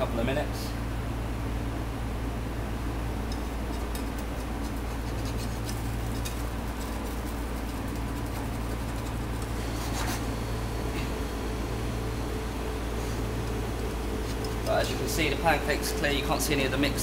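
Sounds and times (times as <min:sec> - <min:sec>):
kitchen hum: 0:01.5 - 0:17.0.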